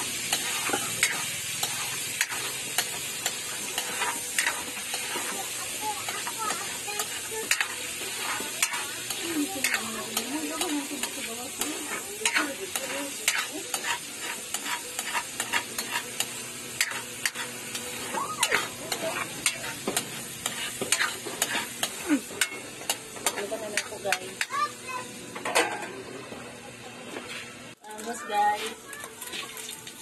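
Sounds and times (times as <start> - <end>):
metal spatula scraping a wok: 0.0 - 24.5
food sizzling in hot oil: 0.0 - 30.0.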